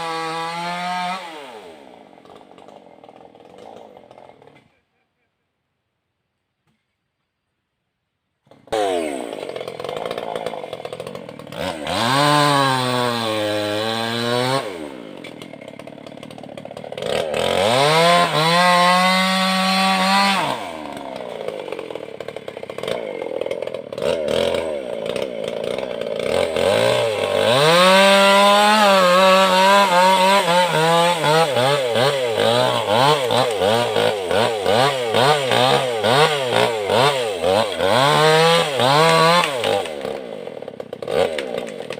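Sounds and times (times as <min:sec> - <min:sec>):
chainsaw revving: 0:00.0 - 0:04.8, 0:08.5 - 0:41.9.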